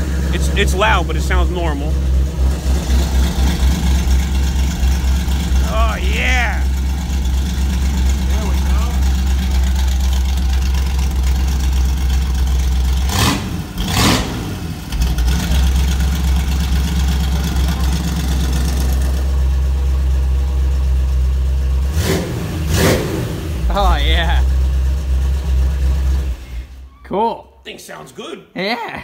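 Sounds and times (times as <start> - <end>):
engine revving: 0.0 - 19.4, 21.8 - 26.6
hot rod engine idling: 0.0 - 22.0, 23.4 - 26.8.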